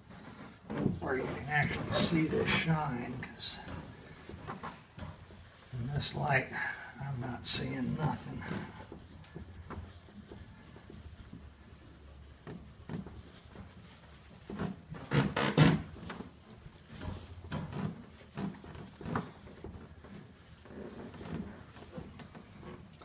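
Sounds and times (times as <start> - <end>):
rag wiping a boat hull: 0.0 - 23.0.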